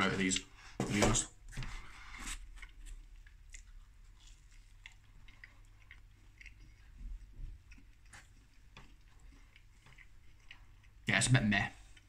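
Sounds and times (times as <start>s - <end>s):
man chewing food: 0.0s - 12.0s.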